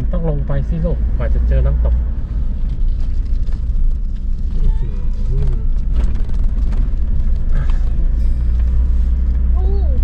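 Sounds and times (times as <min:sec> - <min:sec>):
car driving rumble from inside: 0:00.0 - 0:10.0.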